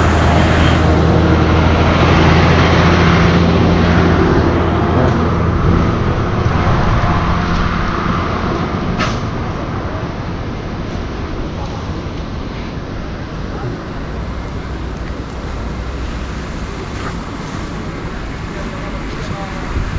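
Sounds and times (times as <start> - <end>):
engine humming steadily: 0.0 - 19.9.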